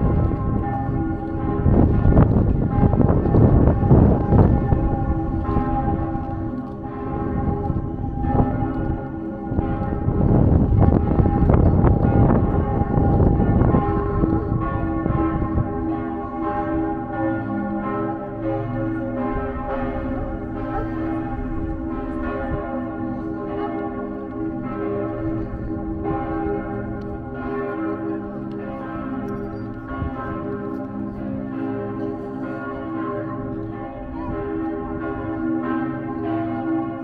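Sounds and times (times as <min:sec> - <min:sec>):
church bells pealing: 0:00.0 - 0:37.0.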